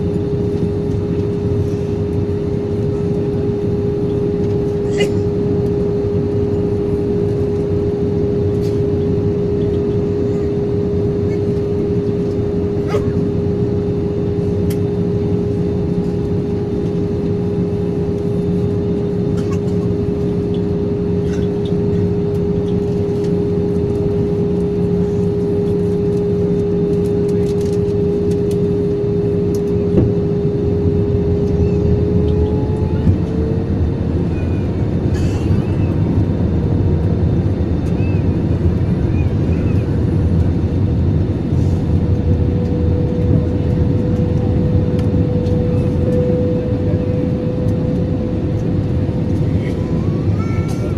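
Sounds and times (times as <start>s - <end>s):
airplane cabin engine drone: 0.0s - 50.9s.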